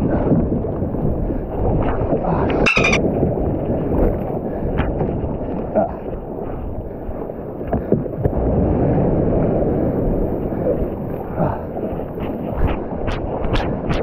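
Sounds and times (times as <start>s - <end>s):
water against kayak hull: 0.0s - 14.0s
wind buffeting microphone: 0.0s - 14.0s.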